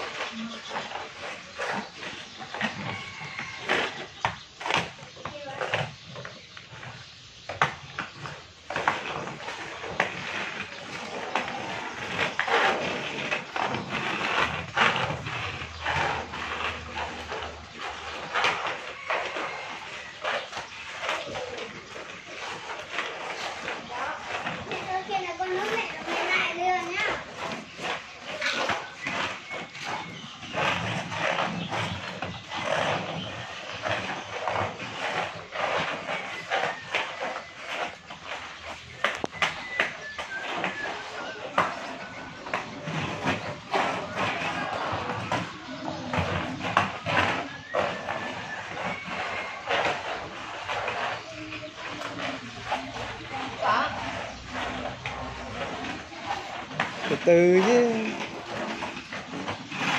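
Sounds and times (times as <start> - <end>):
skate wheels rolling on concrete: 0.0 - 59.9
skates clacking down: 0.0 - 59.9.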